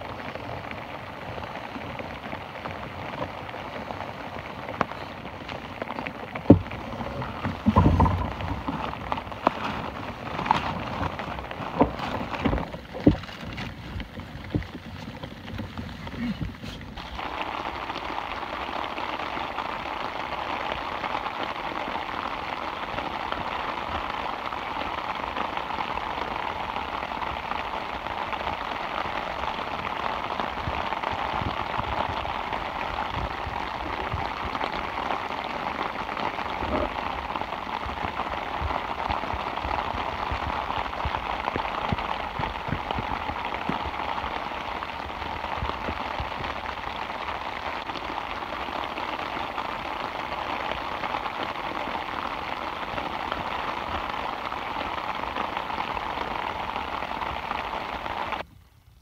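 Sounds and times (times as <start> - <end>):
individual raindrop hits: 0.0 - 58.5
rain falling on a tarp: 0.0 - 59.0.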